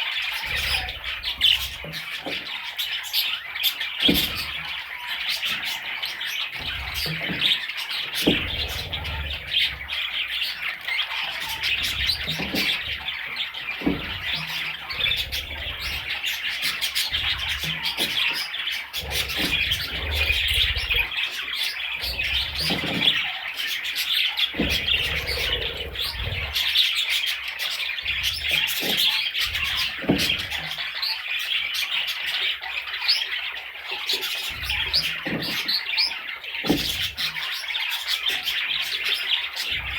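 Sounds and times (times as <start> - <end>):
bird chicks chirping: 0.0 - 39.9.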